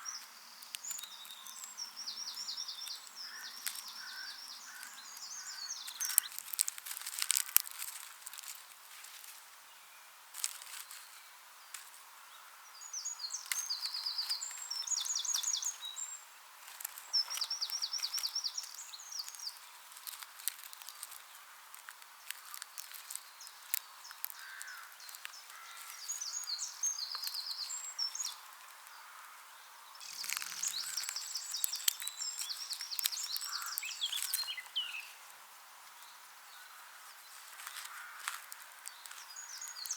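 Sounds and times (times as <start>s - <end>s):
songbirds trilling: 0.0s - 8.7s, 9.8s - 39.9s
dry straw crackling: 0.0s - 9.6s, 10.2s - 39.9s.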